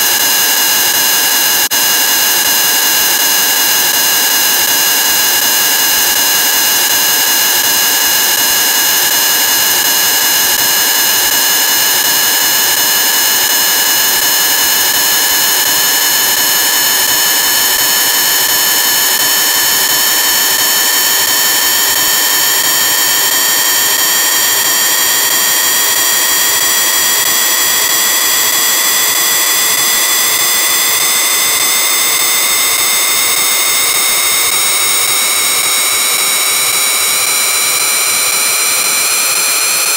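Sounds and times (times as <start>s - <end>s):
shrill electronic whine: 0.0s - 39.9s.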